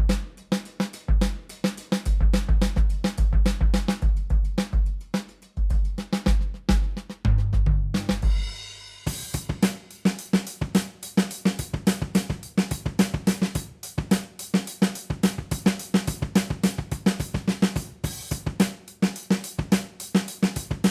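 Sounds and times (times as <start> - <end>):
acoustic drum kit groove: 0.0 - 20.9.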